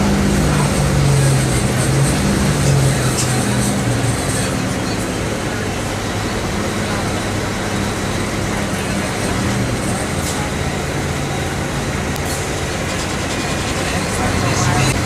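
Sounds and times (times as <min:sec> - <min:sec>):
bus diesel engine hum: 0:00.0 - 0:15.0
road noise: 0:00.0 - 0:15.0.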